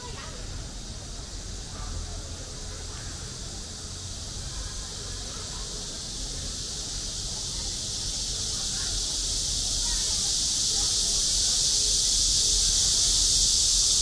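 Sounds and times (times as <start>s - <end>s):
faint distant voices: 0.0s - 14.0s
high-pitched hiss: 0.0s - 14.0s.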